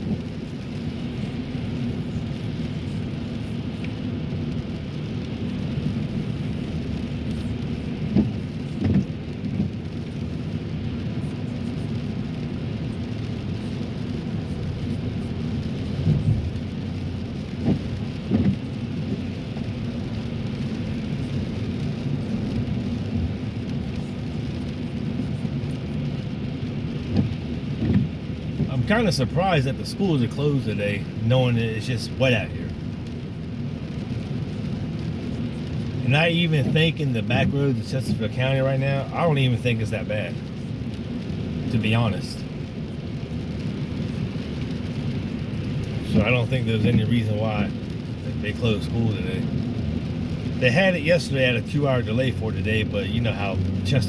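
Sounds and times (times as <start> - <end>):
car tyre noise on wet road: 0.0 - 54.0.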